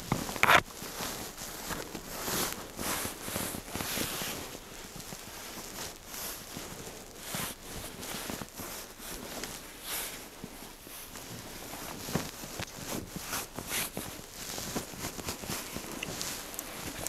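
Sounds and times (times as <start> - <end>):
hanging clothes rustling: 0.0 - 17.0.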